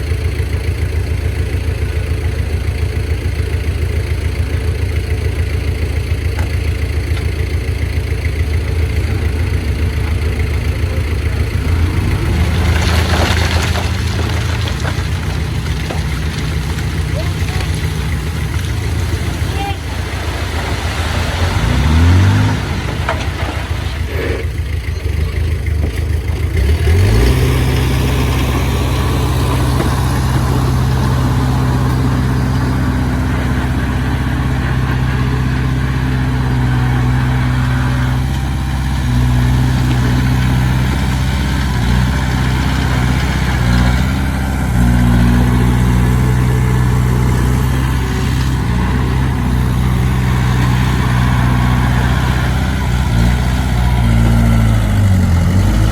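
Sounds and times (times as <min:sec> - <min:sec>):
heavy diesel engine revving: 0:00.0 - 0:55.9.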